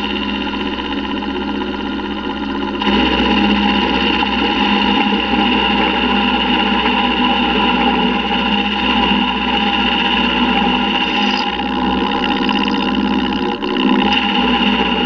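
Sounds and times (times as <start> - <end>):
end mill cutting whine: 0.0 - 15.0
machine motor hum: 0.0 - 15.0.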